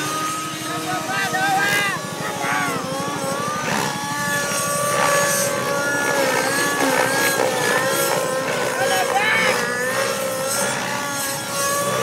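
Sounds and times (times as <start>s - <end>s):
model helicopter engine and rotor: 0.0s - 12.0s.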